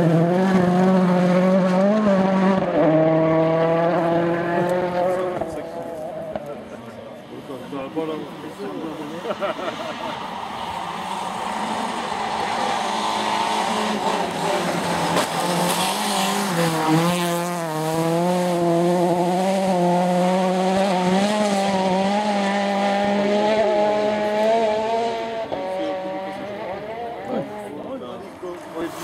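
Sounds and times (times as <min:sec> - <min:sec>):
rally car engine revving: 0:00.0 - 0:07.4, 0:08.1 - 0:29.0.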